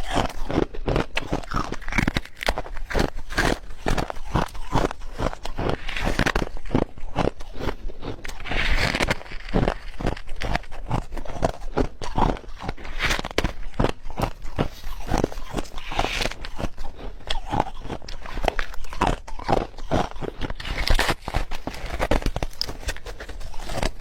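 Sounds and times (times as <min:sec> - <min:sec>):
ice being chewed: 0:00.0 - 0:24.0.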